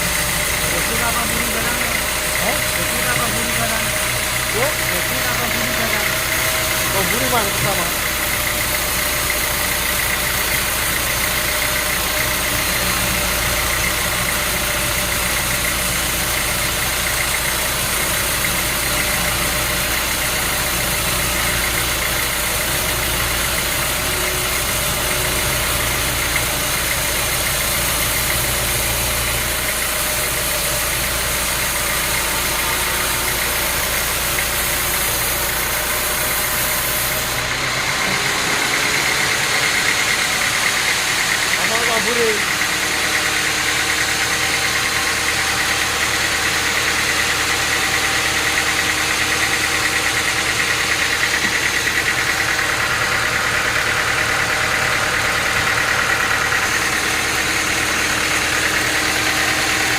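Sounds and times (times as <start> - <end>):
sawmill machinery hum: 0.0 - 59.9.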